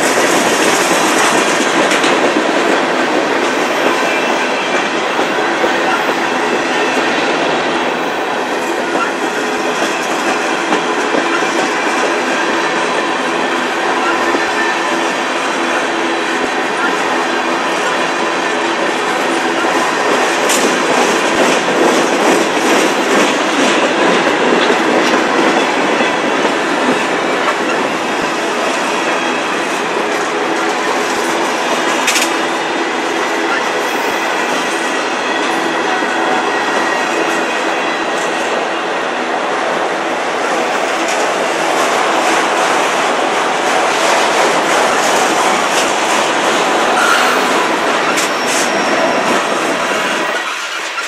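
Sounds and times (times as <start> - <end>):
clickety-clack over rail joints: 0.0 - 38.8, 39.7 - 51.0
train wheels on rail: 0.0 - 51.0.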